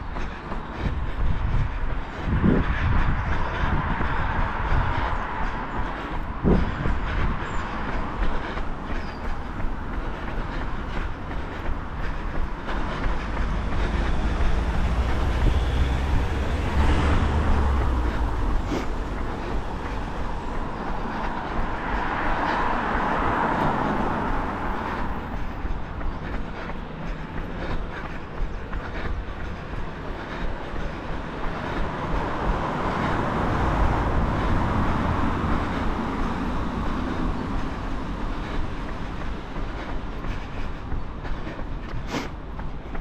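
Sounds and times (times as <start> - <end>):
traffic rumble on wet street: 0.0 - 43.0
vehicles passing: 0.0 - 43.0.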